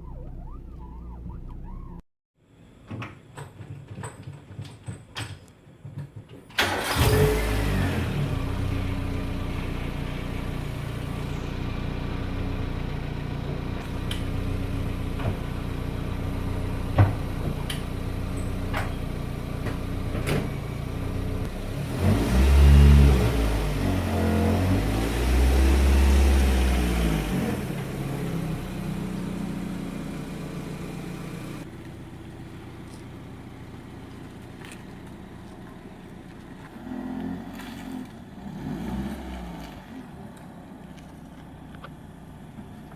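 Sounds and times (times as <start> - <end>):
car engine running: 0.0 - 2.0, 6.8 - 42.9.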